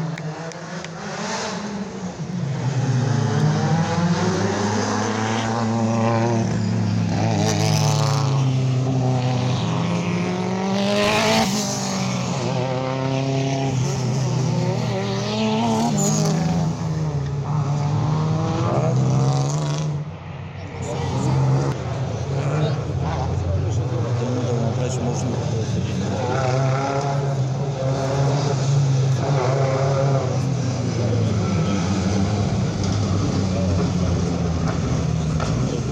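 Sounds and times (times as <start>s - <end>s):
racing car engine revving: 0.0s - 35.9s.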